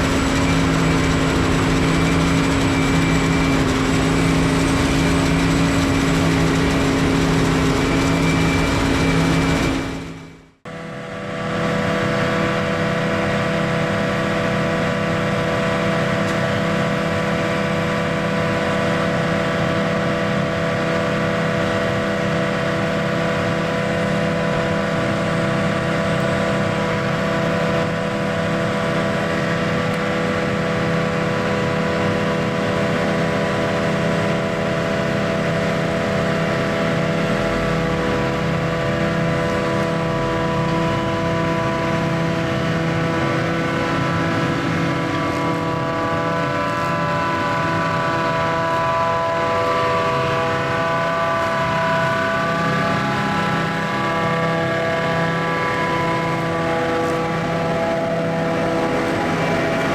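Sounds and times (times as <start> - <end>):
farm machinery engine drone: 0.0 - 59.9.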